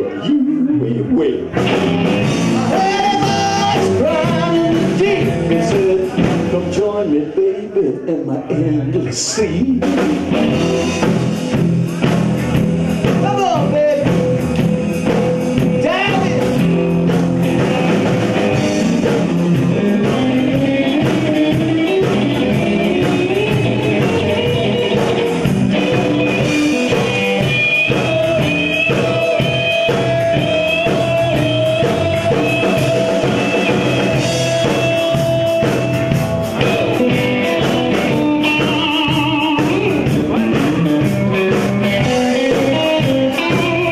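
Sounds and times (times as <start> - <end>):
bass guitar: 0.0 - 43.9
drums: 0.0 - 43.9
electric guitar: 0.0 - 43.9.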